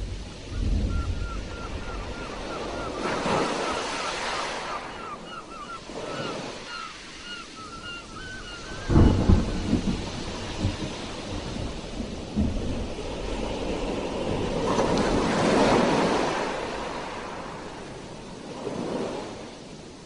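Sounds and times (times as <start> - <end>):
sea waves washing ashore: 0.0 - 20.0.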